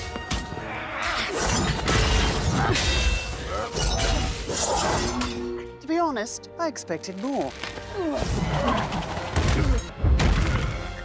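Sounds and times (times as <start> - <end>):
orchestral score: 0.0 - 11.0.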